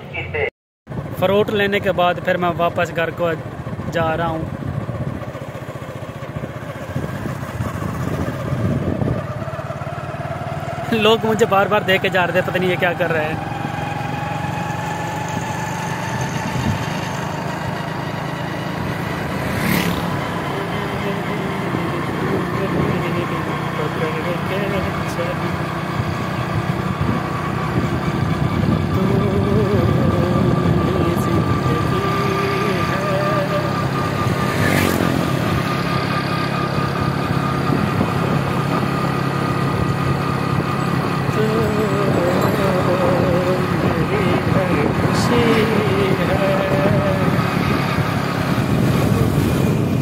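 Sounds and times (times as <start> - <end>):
road and wind noise: 0.0 - 50.0
small motorcycle engine running: 0.9 - 50.0.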